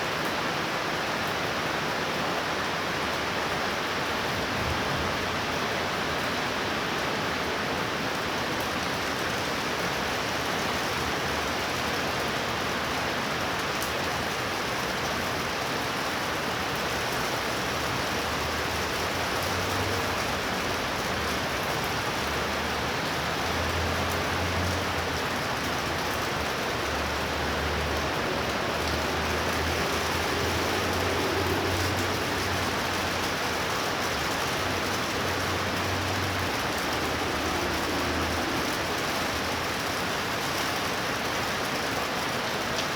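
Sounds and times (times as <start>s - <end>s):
torrential rain pouring: 0.0s - 42.9s.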